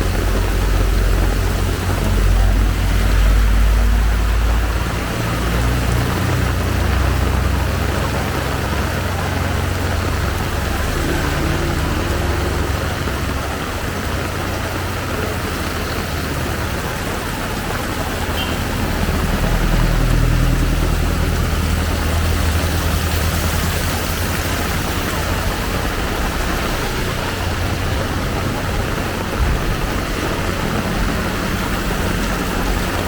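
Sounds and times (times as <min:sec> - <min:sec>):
heavy rain falling: 0:00.0 - 0:33.0
vehicle engines rumbling: 0:00.0 - 0:33.0.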